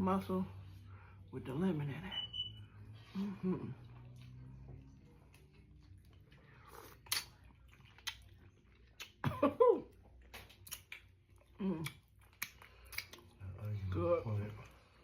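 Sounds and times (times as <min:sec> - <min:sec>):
chewing with mouth clicks: 0:02.3 - 0:15.0.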